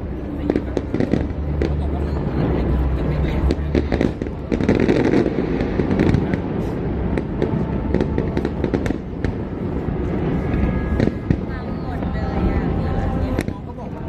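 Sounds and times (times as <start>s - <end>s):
background rush: 0.0s - 14.0s
fireworks popping and banging: 0.0s - 14.0s.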